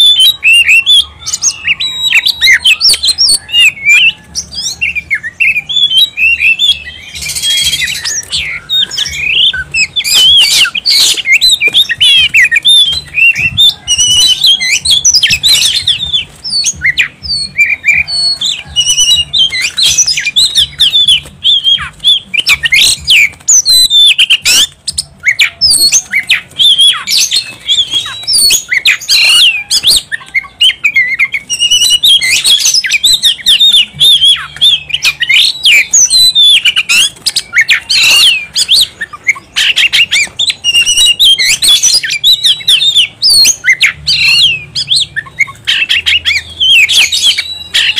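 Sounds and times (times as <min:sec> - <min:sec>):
bird singing varied song: 0:00.0 - 0:47.9.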